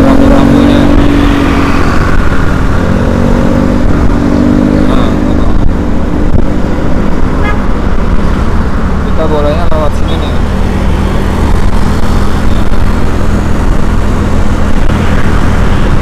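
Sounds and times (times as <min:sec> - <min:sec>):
road and wind rumble: 0:00.0 - 0:16.0
vehicle engine running: 0:00.0 - 0:16.0.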